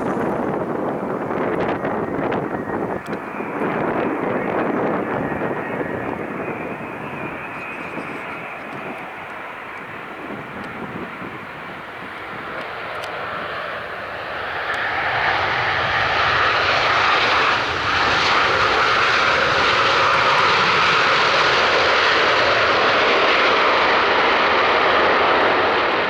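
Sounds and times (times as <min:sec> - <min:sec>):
jet airliner engines: 0:00.0 - 0:26.0.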